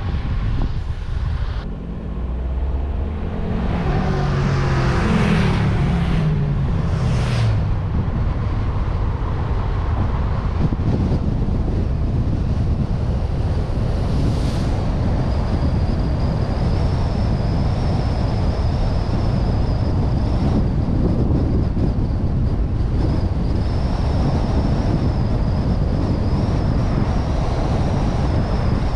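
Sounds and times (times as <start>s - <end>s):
car engine: 0.0s - 28.9s
road and wind noise: 0.0s - 28.9s.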